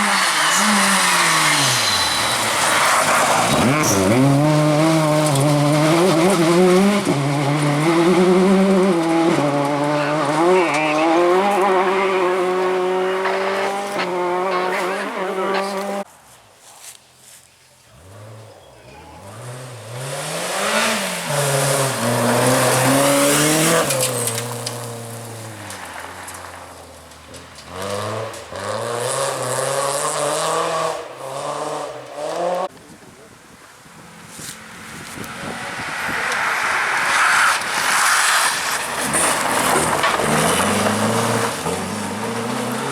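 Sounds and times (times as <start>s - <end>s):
rally car engine revving: 0.0s - 16.1s, 17.9s - 32.7s, 34.0s - 42.9s.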